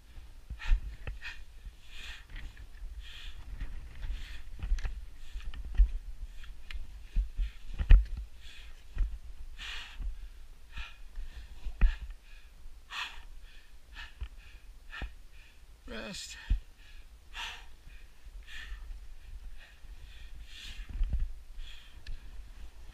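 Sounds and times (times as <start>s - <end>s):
heavy breathing: 0.0s - 22.9s.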